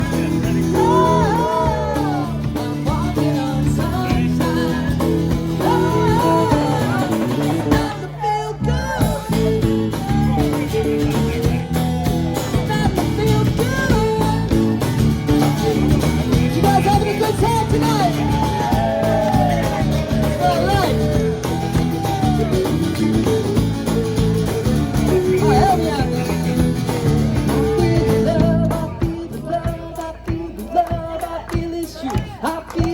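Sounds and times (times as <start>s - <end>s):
rhythm section: 0.0s - 8.2s, 8.9s - 32.9s
guitar: 0.0s - 32.9s
lead singer: 0.0s - 32.9s.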